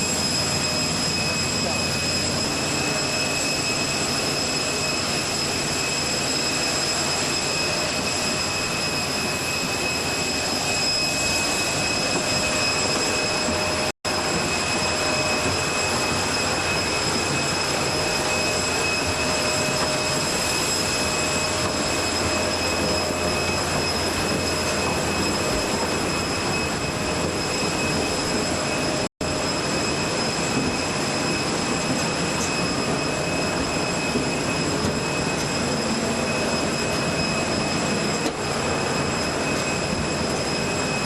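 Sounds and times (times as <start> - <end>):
jet airliner ground systems whine: 0.0 - 41.0.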